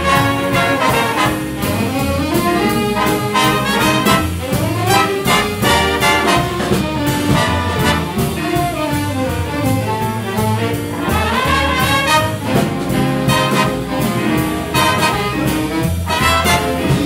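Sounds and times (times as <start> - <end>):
brass and saxophones playing: 0.0 - 17.0
drum beat: 0.0 - 17.0.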